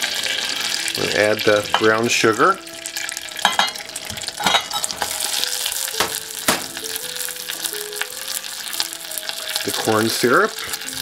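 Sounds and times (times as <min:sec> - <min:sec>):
butter sizzling in a saucepan: 0:00.0 - 0:11.0.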